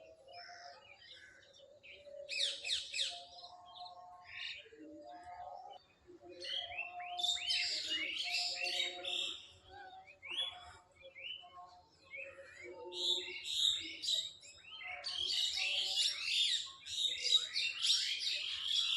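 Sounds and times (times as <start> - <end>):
birds chirping and singing: 0.0 - 18.9.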